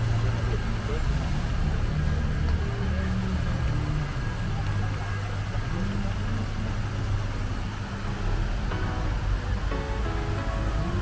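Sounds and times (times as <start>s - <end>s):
road traffic hum: 0.0s - 11.0s
voices of passers-by: 0.0s - 11.0s.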